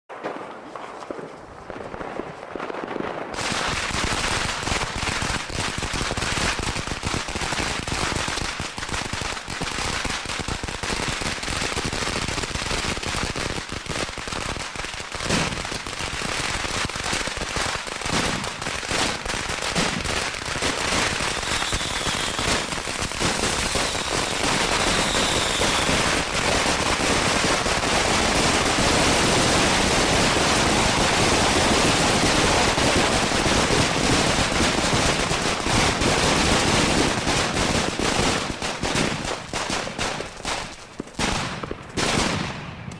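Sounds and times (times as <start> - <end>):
firecrackers crackling: 0.1 - 42.9.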